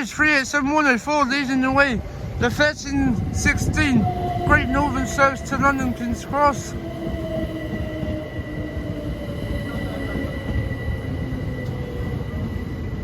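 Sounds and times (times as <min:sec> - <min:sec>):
train rumbling through platform: 0:00.0 - 0:13.0.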